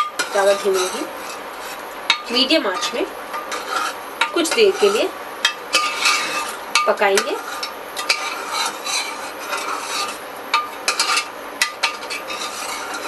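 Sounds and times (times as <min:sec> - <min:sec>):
ladle clinking and scraping pot: 0:00.0 - 0:13.0.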